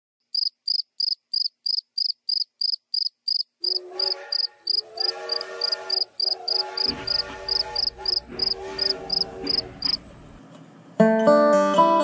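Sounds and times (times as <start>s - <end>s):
cricket chirping: 0.3s - 10.0s.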